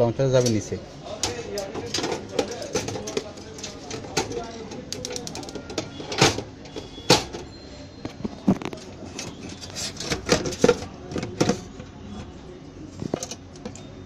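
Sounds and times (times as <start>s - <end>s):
parts clicking in metal case: 0.3s - 7.5s, 8.2s - 12.0s, 13.0s - 13.9s.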